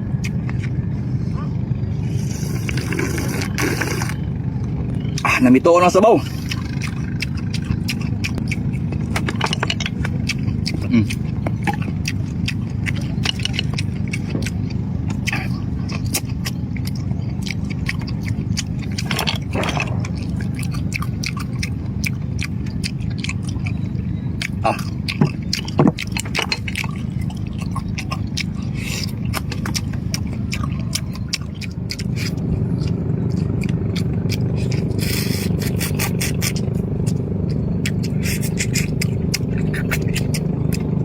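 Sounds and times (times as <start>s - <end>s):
low rumble: 0.0s - 41.0s
chewing: 0.1s - 4.3s, 5.0s - 41.0s.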